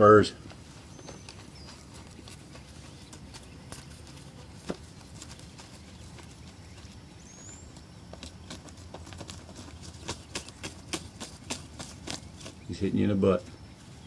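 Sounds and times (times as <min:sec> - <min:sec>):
wings flapping with soft thumps: 0:00.4 - 0:07.0, 0:07.7 - 0:12.8.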